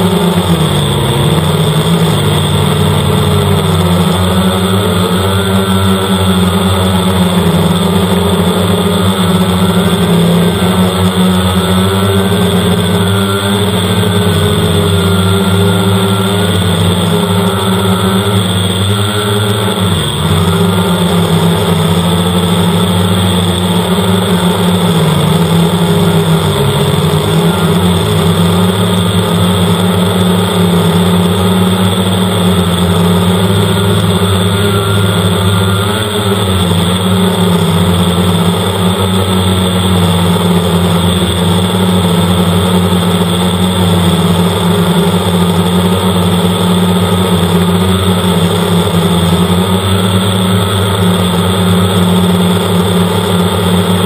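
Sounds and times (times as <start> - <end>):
quadcopter propellers buzzing: 0.0 - 54.0.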